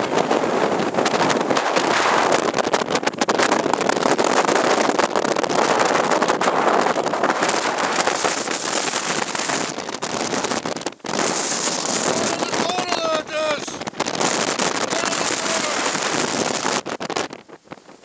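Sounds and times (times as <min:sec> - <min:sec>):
blizzard wind on microphone: 0:00.0 - 0:18.0.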